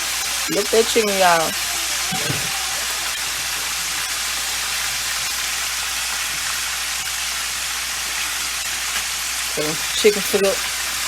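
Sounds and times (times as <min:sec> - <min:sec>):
chicken deep-frying sizzle: 0:00.0 - 0:11.0.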